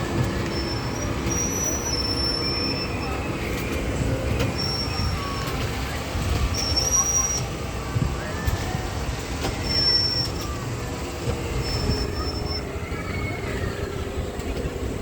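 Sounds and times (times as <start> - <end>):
high steady squeal: 0.0 - 8.8, 9.6 - 15.0
kiddie ride car rumbling: 0.0 - 15.0.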